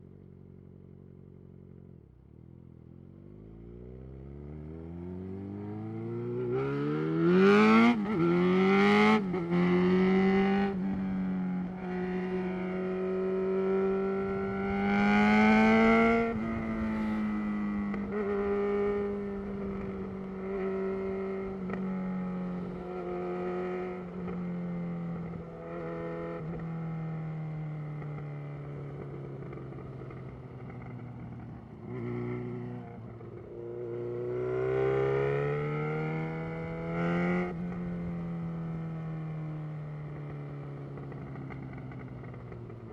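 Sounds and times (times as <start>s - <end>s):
motorcycle engine accelerating: 2.7s - 42.9s.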